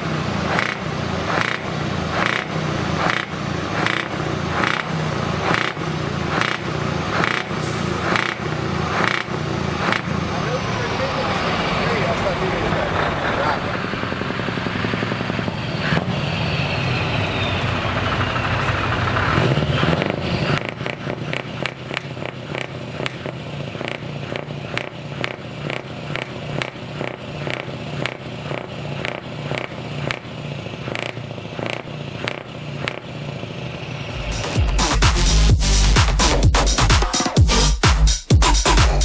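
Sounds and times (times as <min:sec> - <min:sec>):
truck engine revving and idling: 0:00.0 - 0:39.0.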